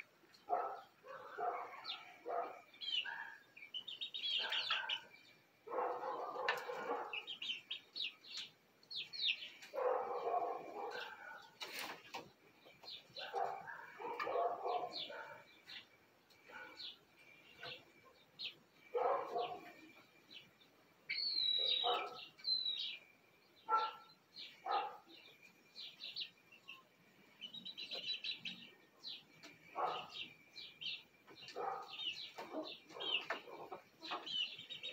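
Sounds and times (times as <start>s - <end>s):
young chickens peeping: 0.0s - 34.9s.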